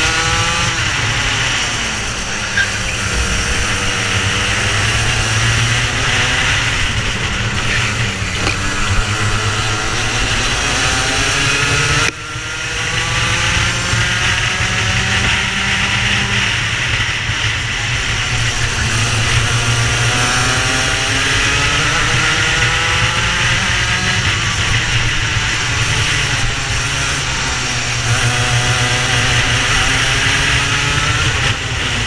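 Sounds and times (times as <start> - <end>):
racing kart engine accelerating: 0.0 - 32.0.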